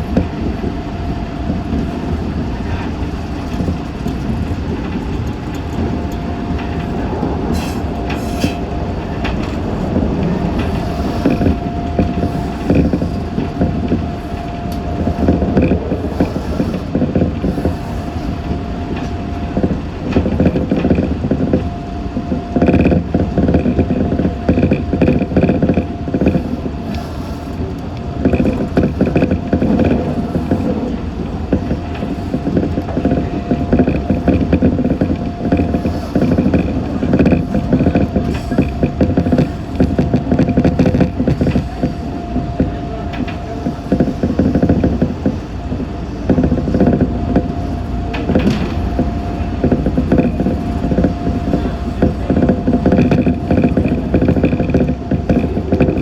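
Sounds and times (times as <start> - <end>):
steady humming tone: 0.0 - 56.0
track clicks and car body creaks: 0.0 - 56.0
train wheels rumbling on rails: 0.0 - 56.0.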